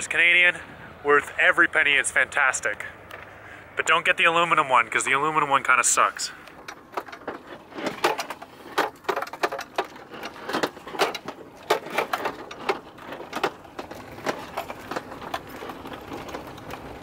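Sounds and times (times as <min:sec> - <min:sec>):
van cab rattling on rough road: 0:00.0 - 0:17.0.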